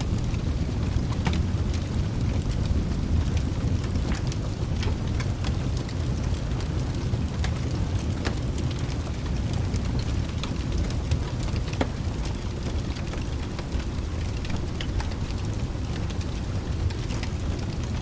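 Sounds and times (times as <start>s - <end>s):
thunder rumbling: 0.0s - 7.3s, 9.3s - 18.0s
burning wood crackling: 0.0s - 18.0s
rain: 0.0s - 18.0s.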